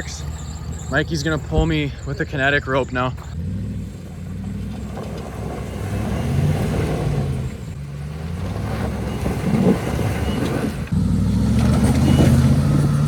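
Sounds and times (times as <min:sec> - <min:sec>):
pickup truck engine revving: 0:00.0 - 0:13.0.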